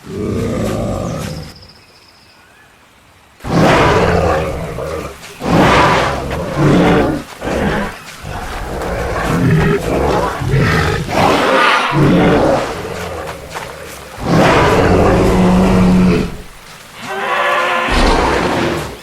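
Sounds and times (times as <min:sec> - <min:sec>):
animal roars: 0:00.0 - 0:01.6, 0:03.4 - 0:19.0.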